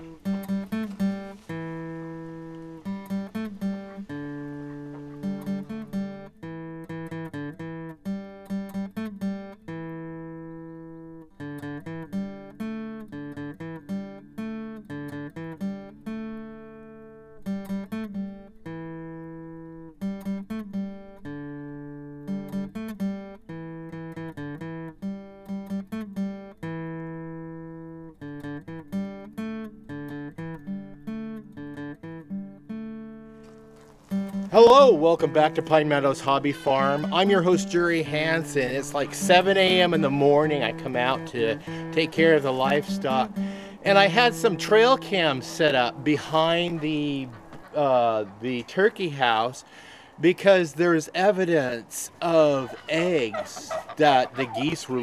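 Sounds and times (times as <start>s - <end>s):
acoustic guitar picking: 0.0s - 55.0s.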